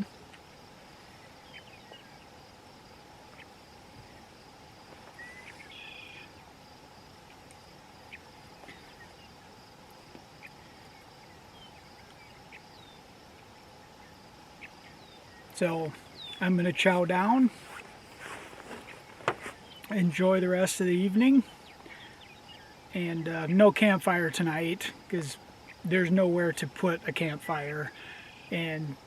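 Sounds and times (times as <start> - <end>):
buzzy insect call: 0.0 - 29.0.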